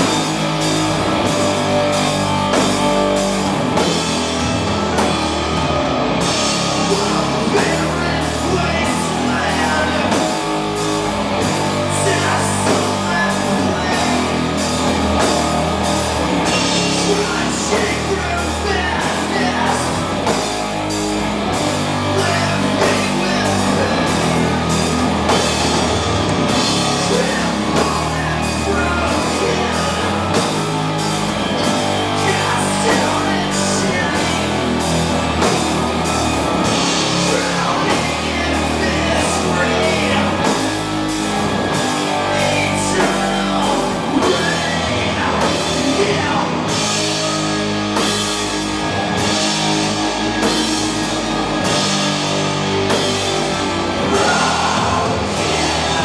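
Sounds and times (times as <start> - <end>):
distorted guitars and bass: 0.0 - 56.0
drums: 0.0 - 56.0.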